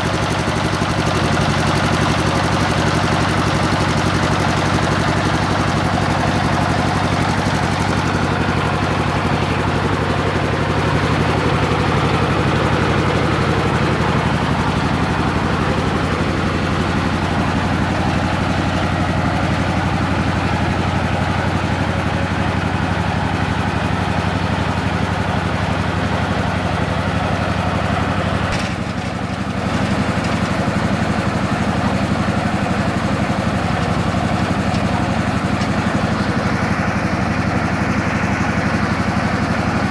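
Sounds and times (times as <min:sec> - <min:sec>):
drilling rig motor humming: 0:00.0 - 0:39.9.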